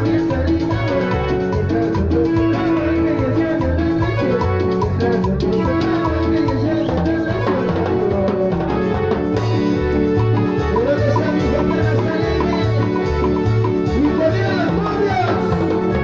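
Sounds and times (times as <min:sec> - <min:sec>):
bass and drums dance beat: 0:00.0 - 0:16.0
guitar melody: 0:00.0 - 0:16.0.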